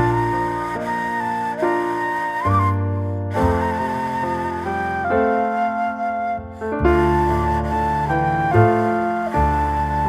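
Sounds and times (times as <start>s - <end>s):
soft flute-like melody: 0.0s - 10.0s
sustained low accompaniment: 0.0s - 10.0s.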